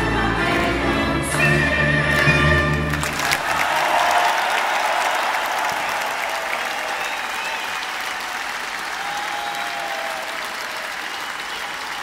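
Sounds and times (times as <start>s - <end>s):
arena audience applauding: 2.1s - 12.0s.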